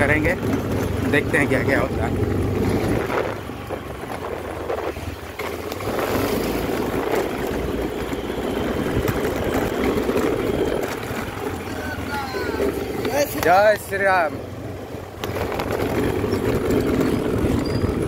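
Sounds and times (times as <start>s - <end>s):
motor scooter engine: 0.0s - 18.0s.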